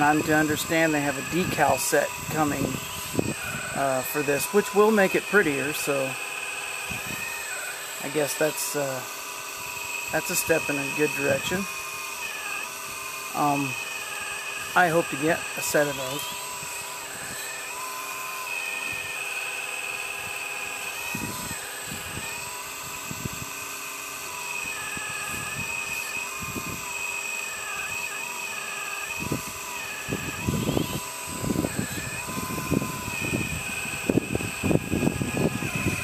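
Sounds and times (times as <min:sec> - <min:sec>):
hydraulic pump whining: 0:00.0 - 0:36.0.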